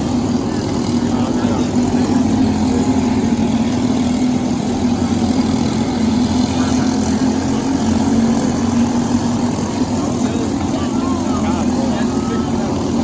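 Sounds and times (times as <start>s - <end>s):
kart engine running hard: 0.0s - 13.0s.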